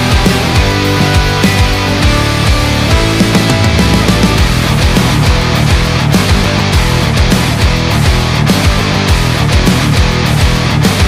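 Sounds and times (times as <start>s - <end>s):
fast driving drum beat: 0.0s - 11.0s
loud rock music: 0.0s - 11.0s.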